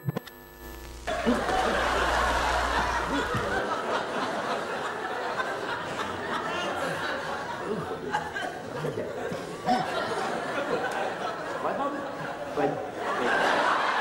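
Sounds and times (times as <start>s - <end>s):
audience laughing: 1.1s - 14.0s.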